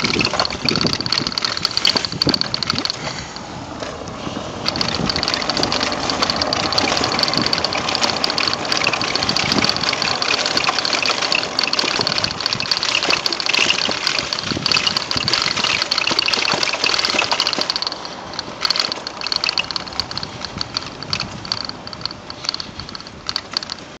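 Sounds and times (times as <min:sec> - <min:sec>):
bicycle rattling over cobblestones: 0:00.0 - 0:24.0
thin high ringing: 0:04.6 - 0:23.9.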